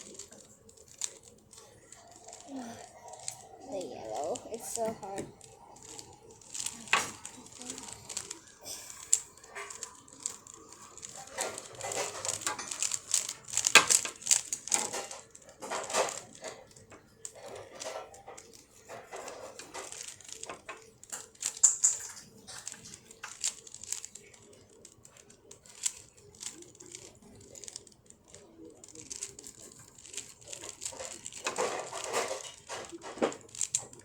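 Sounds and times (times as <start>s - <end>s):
plastic puzzle cube twisting clicks: 0.0s - 34.0s.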